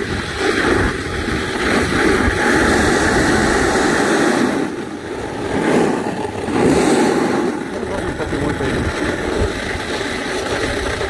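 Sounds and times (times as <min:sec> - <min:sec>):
snowboard scraping over snow: 0:00.0 - 0:11.0
wind buffeting microphone: 0:00.0 - 0:11.0.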